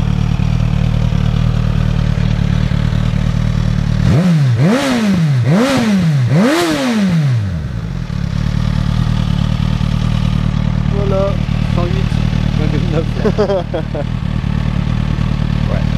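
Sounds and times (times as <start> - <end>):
motorcycle engine idling and revving: 0.0 - 15.9.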